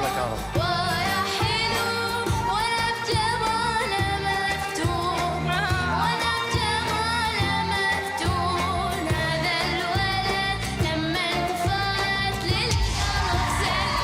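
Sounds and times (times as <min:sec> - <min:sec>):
instrumental backing with beat: 0:00.0 - 0:14.0
girl singing: 0:00.6 - 0:14.0.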